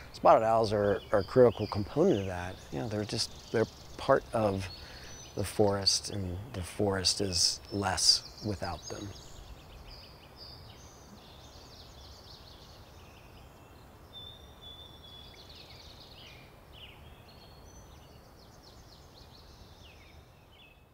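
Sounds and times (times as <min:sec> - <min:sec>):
songbirds twittering: 0:00.0 - 0:20.9.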